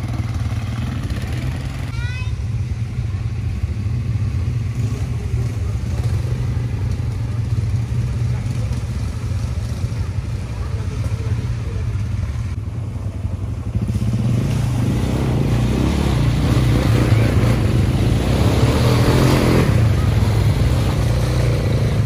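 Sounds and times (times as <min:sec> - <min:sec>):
quad bike engines rumbling: 0:00.0 - 0:22.0.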